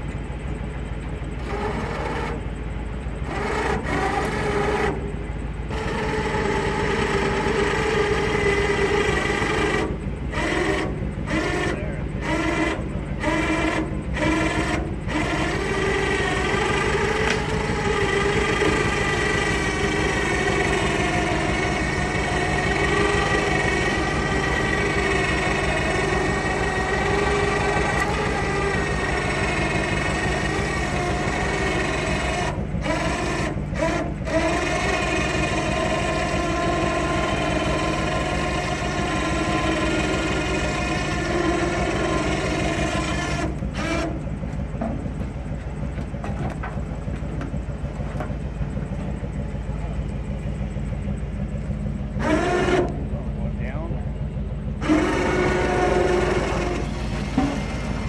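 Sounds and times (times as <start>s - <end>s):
electric winch whining under load: 0.0s - 58.0s
steady low hum: 0.0s - 58.0s.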